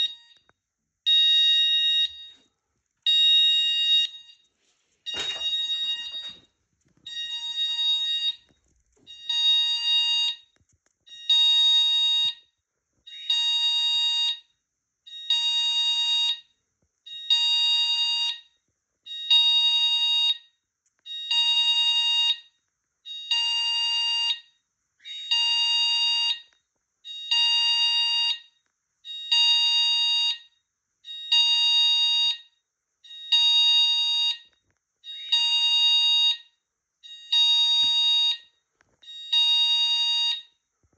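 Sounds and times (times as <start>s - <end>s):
pulsed fire alarm tone: 0.0s - 0.4s, 1.1s - 2.4s, 5.1s - 6.5s, 7.1s - 10.5s, 11.1s - 12.5s, 15.1s - 16.5s, 17.1s - 40.6s.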